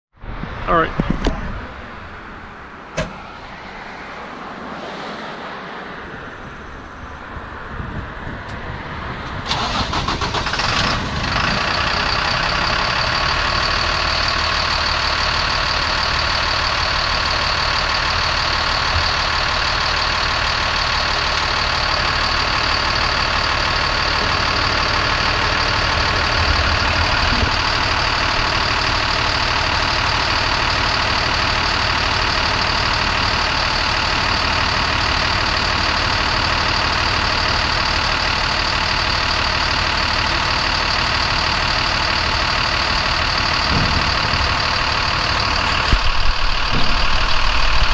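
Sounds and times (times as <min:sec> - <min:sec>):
truck engine starting and idling: 0:00.3 - 0:47.9.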